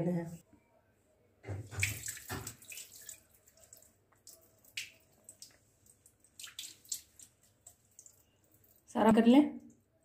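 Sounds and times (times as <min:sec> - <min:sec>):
water dripping: 0:01.4 - 0:10.0.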